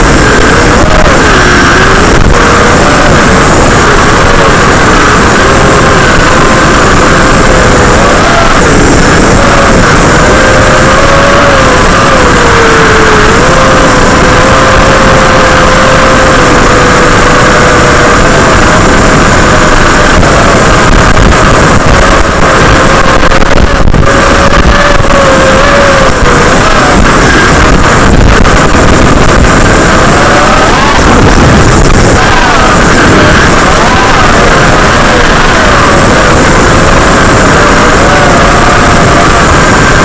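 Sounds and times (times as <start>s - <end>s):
drone motors whining: 0.0s - 40.0s
wind noise on microphone: 0.0s - 40.0s.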